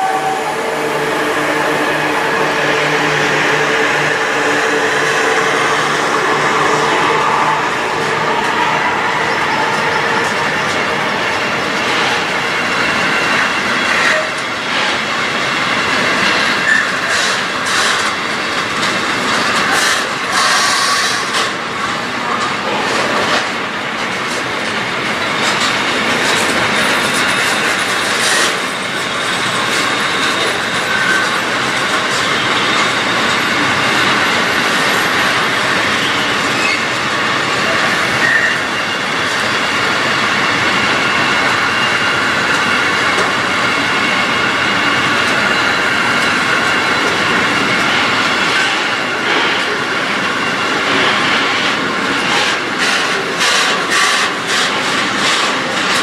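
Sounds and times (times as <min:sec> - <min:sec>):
steel wheels rushing on rail: 0:00.0 - 0:56.0.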